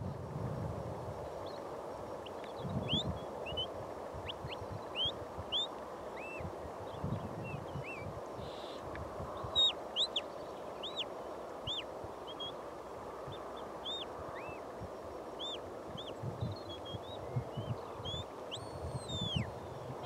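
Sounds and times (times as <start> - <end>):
wind rumble on microphone: 0.0 - 11.0, 11.6 - 20.0.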